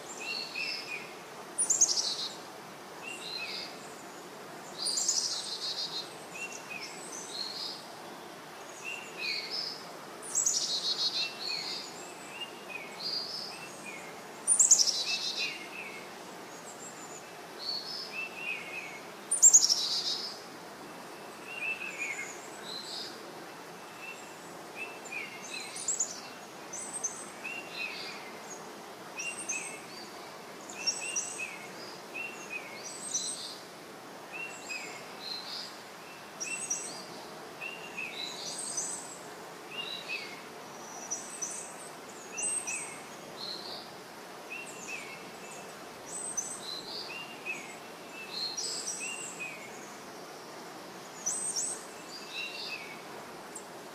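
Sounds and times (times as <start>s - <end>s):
steady hiss: 0.0s - 53.9s.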